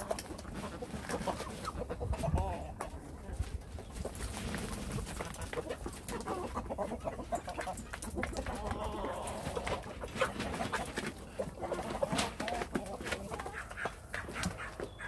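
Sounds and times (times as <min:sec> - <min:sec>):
beaks pecking in metal pans: 0:00.0 - 0:15.0
hens clucking softly: 0:00.0 - 0:15.0.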